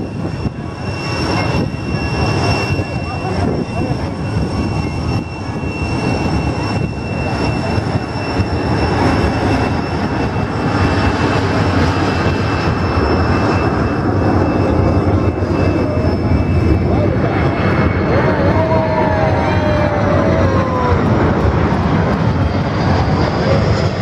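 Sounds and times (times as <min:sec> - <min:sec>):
jet engines whining and rumbling: 0:00.0 - 0:24.0.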